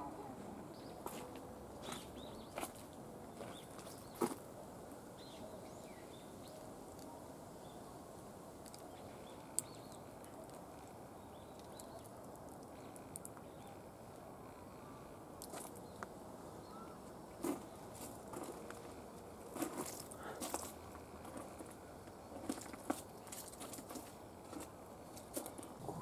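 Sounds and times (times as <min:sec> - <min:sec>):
steady faint hiss: 0:00.0 - 0:26.0.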